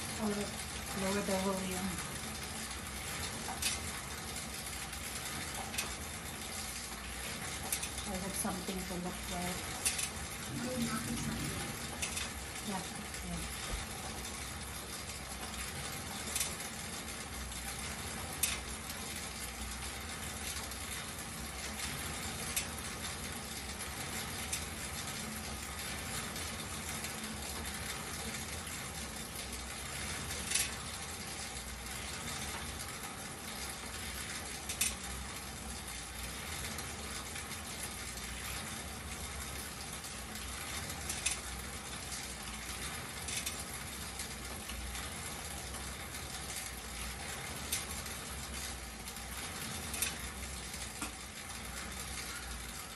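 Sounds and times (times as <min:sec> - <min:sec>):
exercise bike fan whirring: 0:00.0 - 0:52.9.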